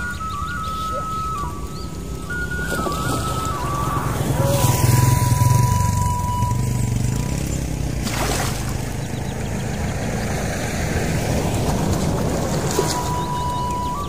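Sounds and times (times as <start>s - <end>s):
motor vehicle passing: 0.2s - 14.0s.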